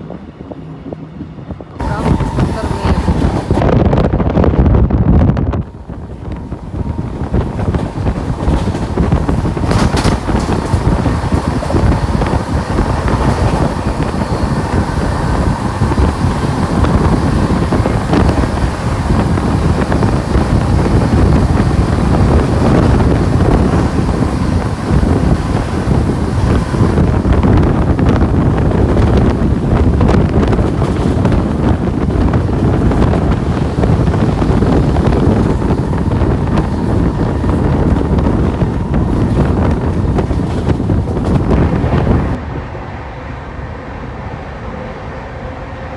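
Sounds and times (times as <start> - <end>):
wind on microphone: 0.0 - 45.9
train wheels clattering on rails: 1.8 - 3.7, 5.7 - 42.4.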